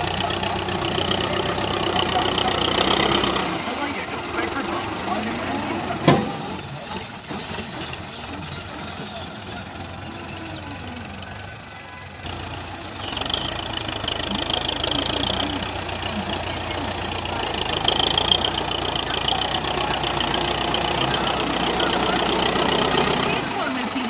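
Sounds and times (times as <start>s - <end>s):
tractor diesel engine knocking: 0.0s - 24.0s.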